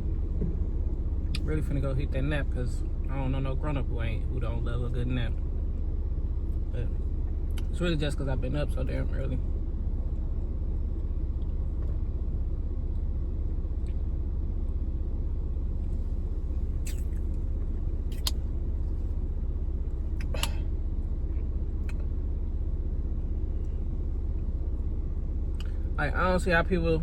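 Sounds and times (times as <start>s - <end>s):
car engine rumble from inside: 0.0s - 27.0s.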